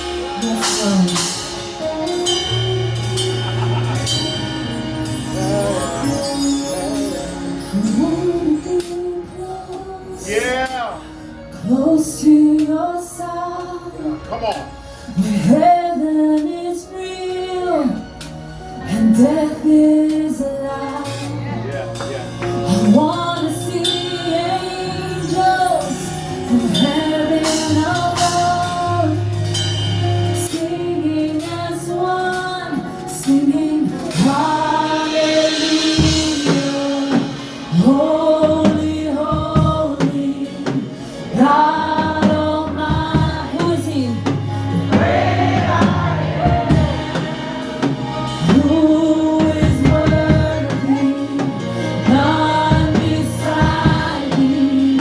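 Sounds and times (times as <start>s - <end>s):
band with bass and percussion: 0.0s - 55.0s
singers holding wavering notes: 0.0s - 55.0s.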